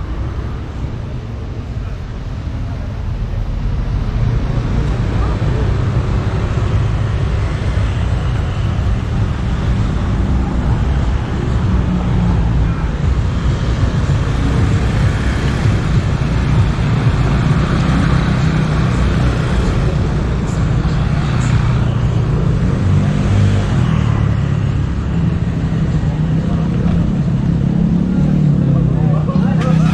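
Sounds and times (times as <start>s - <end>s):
heavy low traffic rumble: 0.0s - 29.9s
vehicles passing: 0.0s - 29.9s.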